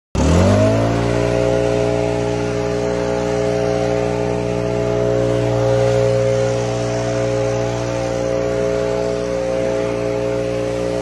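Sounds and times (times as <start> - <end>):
leaf blower whining: 0.2 - 11.0
rush of air: 1.2 - 11.0.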